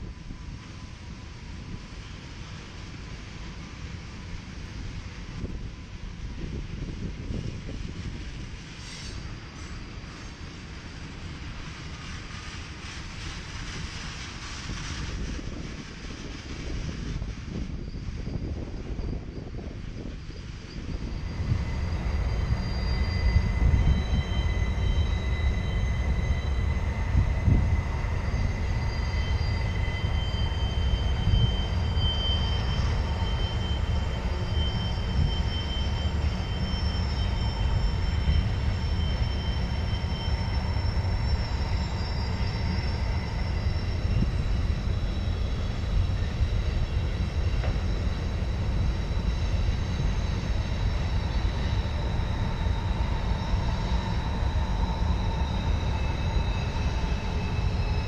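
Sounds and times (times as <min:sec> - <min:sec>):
freight train rumbling past: 0:00.0 - 0:58.0
high-pitched wheel squeals: 0:08.6 - 0:58.0.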